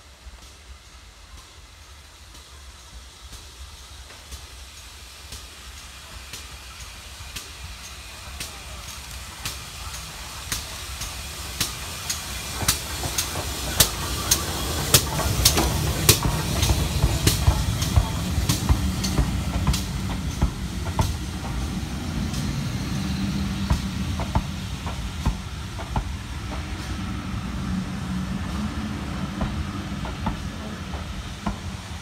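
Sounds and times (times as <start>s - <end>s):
steam hissing: 0.0s - 32.0s
steam locomotive rumbling: 0.0s - 32.0s.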